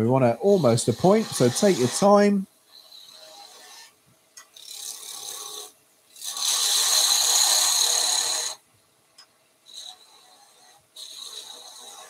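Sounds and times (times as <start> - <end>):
lathe tool cutting wood: 0.2 - 3.9, 4.6 - 8.6, 9.7 - 12.0.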